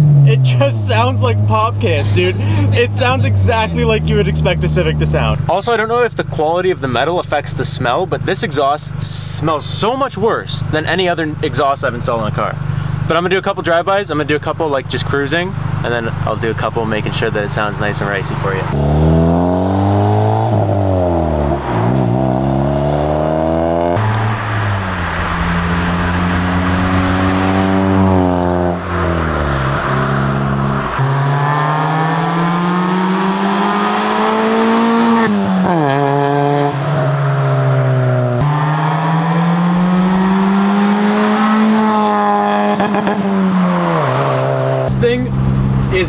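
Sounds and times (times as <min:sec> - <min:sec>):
car engine accelerating hard: 0:00.0 - 0:13.8, 0:14.4 - 0:46.0.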